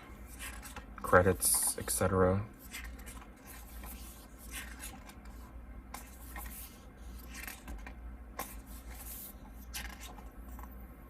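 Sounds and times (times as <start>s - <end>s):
paper pages turning: 0.2s - 2.0s, 2.6s - 10.7s.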